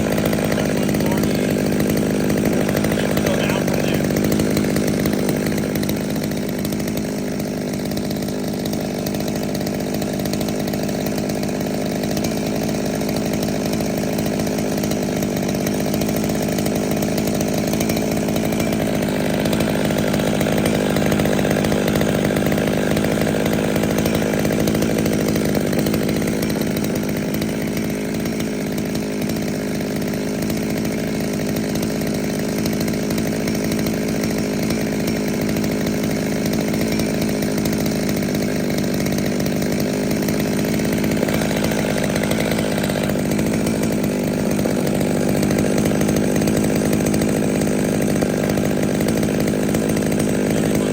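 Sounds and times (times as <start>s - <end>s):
chainsaw engine running: 0.0s - 50.9s.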